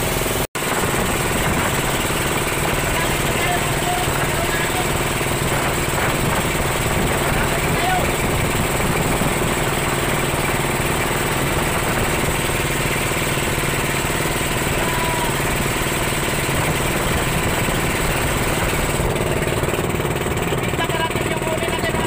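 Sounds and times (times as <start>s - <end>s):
fishing boat engine running: 0.0s - 22.0s.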